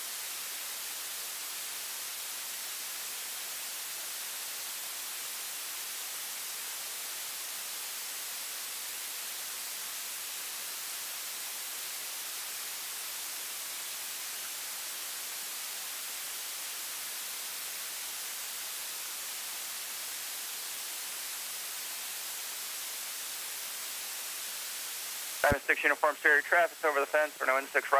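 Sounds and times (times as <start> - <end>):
steady electronic hiss: 0.0 - 27.9.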